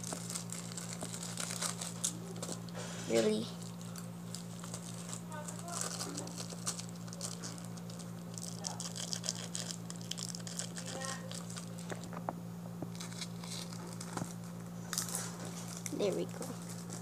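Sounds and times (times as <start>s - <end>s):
cellophane crinkling: 0.0s - 2.8s, 3.4s - 12.2s, 12.9s - 17.0s
steady low hum: 0.0s - 17.0s.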